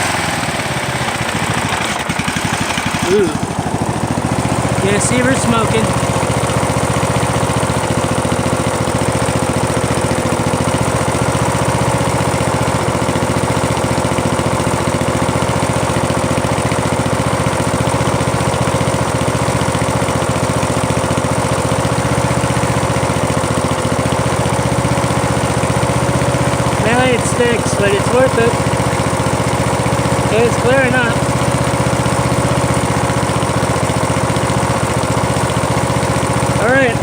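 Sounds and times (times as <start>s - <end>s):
lawn tractor engine running: 0.0s - 37.0s.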